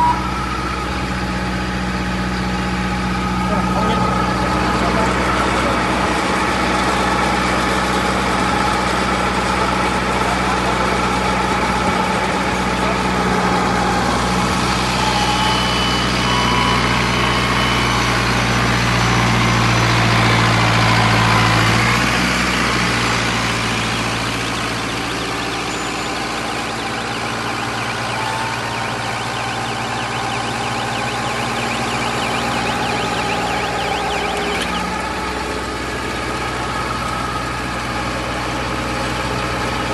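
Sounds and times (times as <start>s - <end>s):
baler machine droning: 0.0s - 39.9s.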